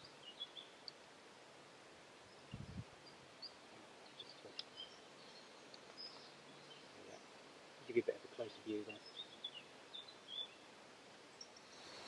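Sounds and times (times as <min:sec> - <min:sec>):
faint bird chirps: 0:00.0 - 0:01.0, 0:02.2 - 0:12.0.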